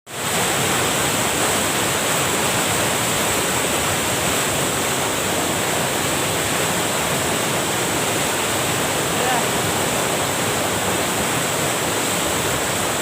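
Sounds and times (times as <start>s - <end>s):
water rushing over weir: 0.1s - 13.0s.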